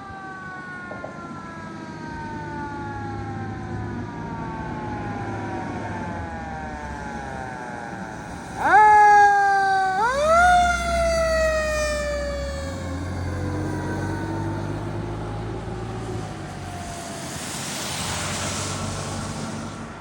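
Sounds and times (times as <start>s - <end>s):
fire truck siren: 0.0s - 20.0s
low truck rumble: 3.3s - 20.0s.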